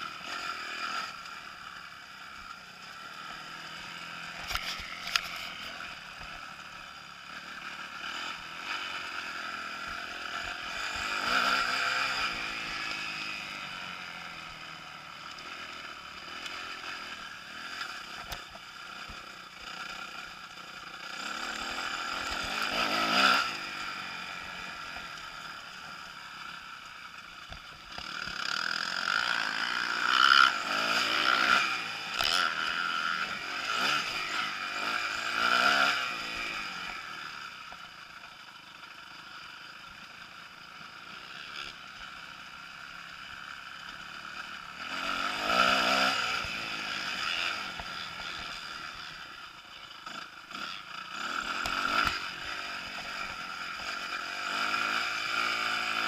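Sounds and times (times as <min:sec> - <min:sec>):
motocross bike engine revving: 0:00.0 - 0:38.2, 0:38.9 - 0:56.0.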